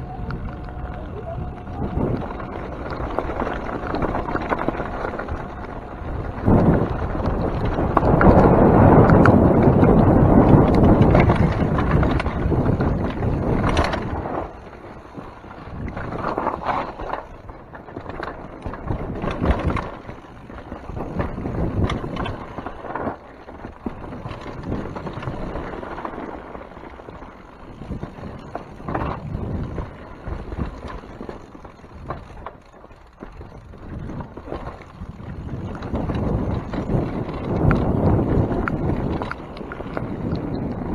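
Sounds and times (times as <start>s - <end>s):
bike knocks and rattles: 0.0s - 40.9s
bike tyre noise: 0.0s - 40.9s
wind on microphone: 0.0s - 40.9s.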